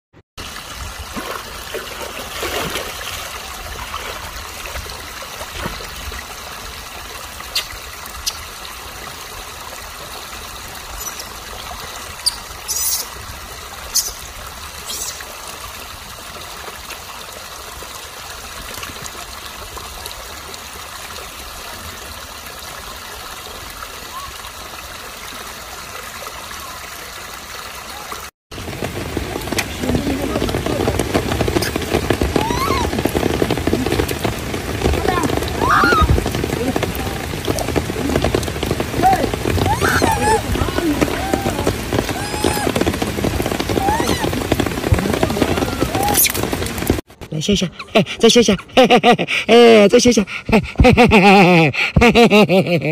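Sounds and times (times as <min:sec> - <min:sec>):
stream water over rocks: 0:00.4 - 0:52.8.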